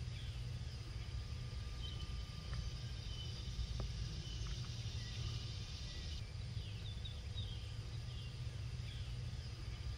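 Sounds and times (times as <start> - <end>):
birds chirping: 0.0 - 9.9
low outdoor rumble: 0.0 - 9.9.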